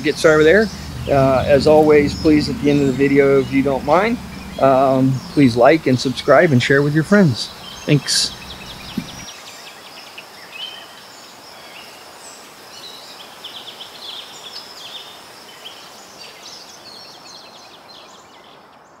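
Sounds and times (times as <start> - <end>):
small birds chirping: 0.0 - 19.0
steady background hiss: 0.0 - 19.0.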